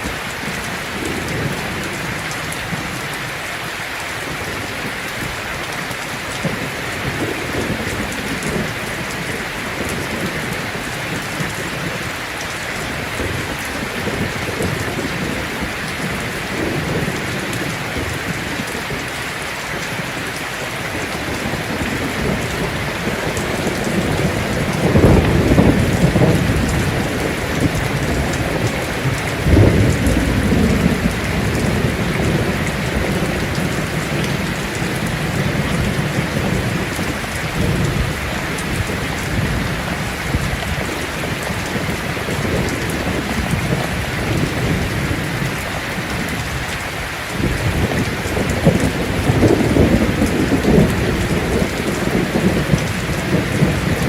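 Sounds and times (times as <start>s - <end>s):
rain on a tin roof: 0.0s - 54.0s
thunder rumbling: 4.3s - 54.0s.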